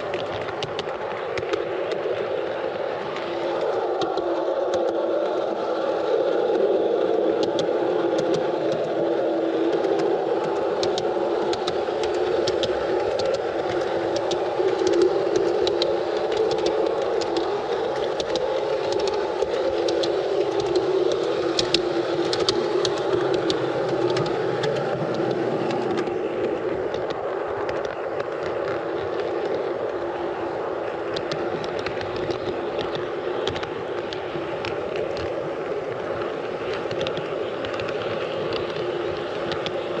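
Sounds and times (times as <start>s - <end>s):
model train motor drone: 0.0s - 40.0s
wheels clicking over rails: 0.0s - 40.0s.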